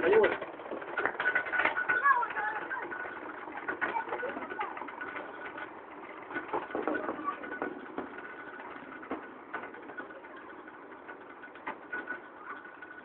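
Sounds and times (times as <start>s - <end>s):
moped engine running: 0.0s - 13.0s
clicks and knocks: 0.1s - 13.0s.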